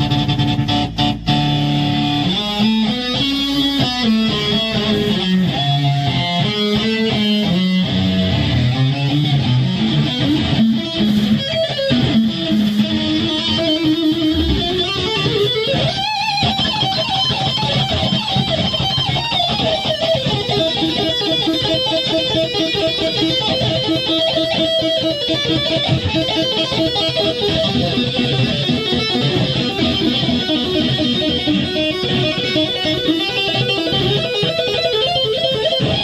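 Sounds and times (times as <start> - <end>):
electric guitar lead: 0.0 - 36.0.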